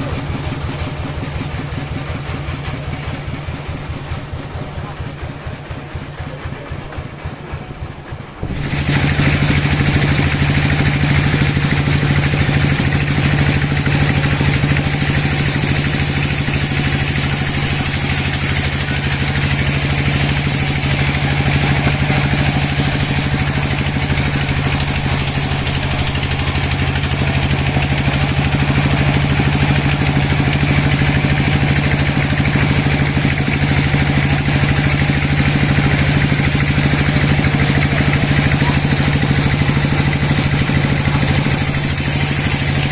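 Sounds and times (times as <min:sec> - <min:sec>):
sawmill machinery hum: 0:00.0 - 0:42.9
machinery hiss: 0:06.4 - 0:42.9.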